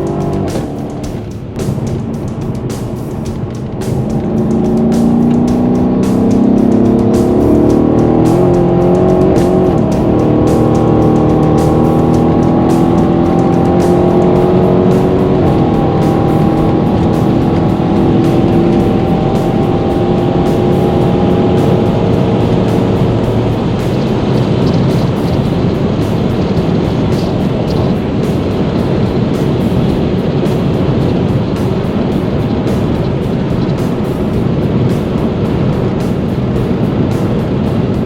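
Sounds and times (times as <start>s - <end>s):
car engine pulling hard: 0.0s - 38.0s.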